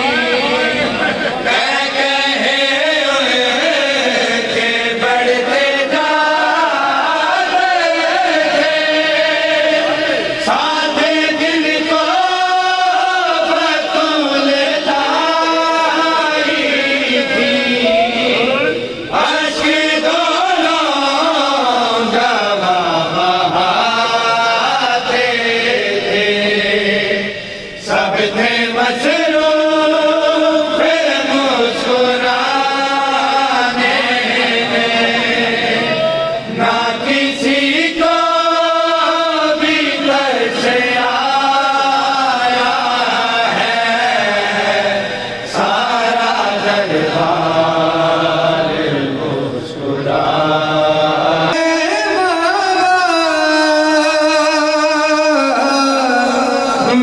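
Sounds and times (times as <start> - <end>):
men chanting a lament: 0.0 - 57.0.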